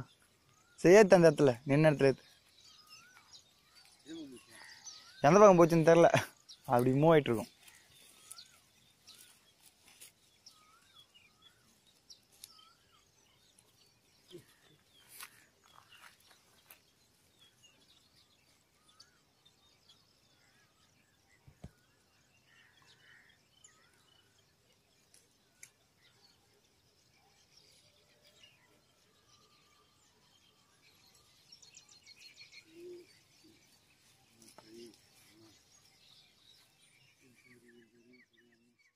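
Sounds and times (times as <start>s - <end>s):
small bird chirps: 0.0s - 38.9s.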